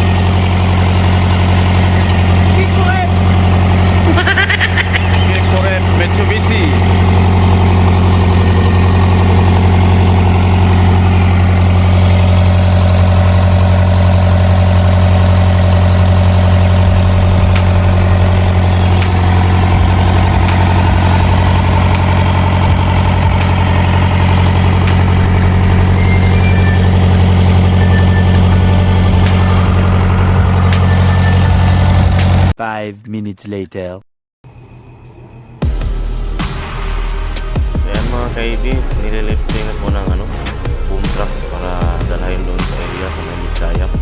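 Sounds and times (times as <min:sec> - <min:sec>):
diesel engine idling: 0:00.0 - 0:32.5, 0:35.6 - 0:44.0.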